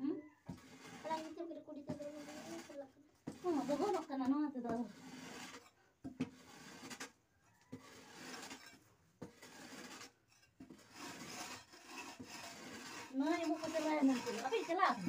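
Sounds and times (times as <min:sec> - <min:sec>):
wooden tool scraping earthen floor: 0:00.3 - 0:15.0.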